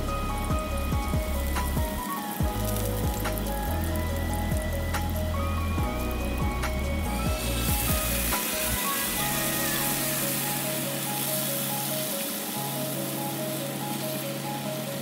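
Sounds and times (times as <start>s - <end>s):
background music: 0.0s - 15.0s
food sizzling in oil: 0.0s - 15.0s.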